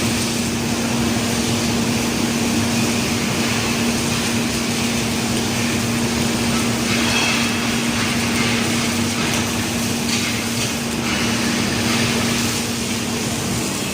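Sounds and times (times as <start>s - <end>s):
welding hiss: 0.0s - 13.9s.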